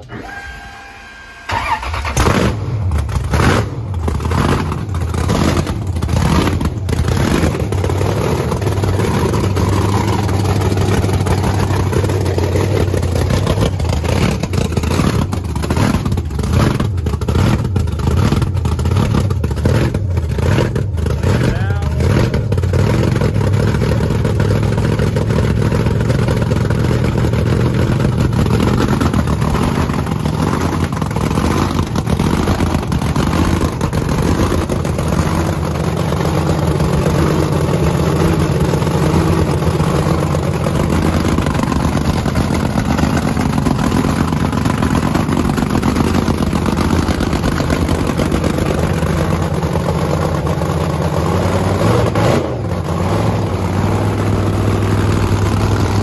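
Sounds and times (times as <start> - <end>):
race car engine idling: 1.5 - 56.0.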